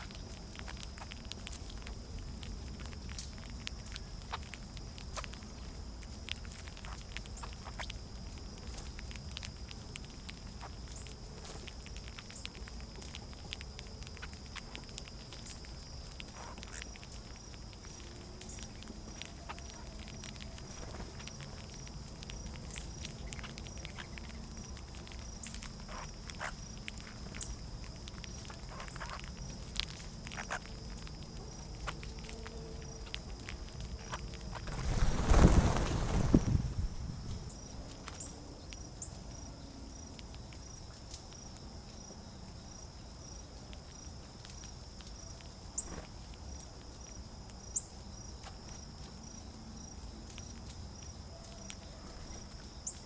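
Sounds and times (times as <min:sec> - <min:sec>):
high insect trill: 0:00.0 - 0:53.0
small birds feeding clicks: 0:00.0 - 0:53.0.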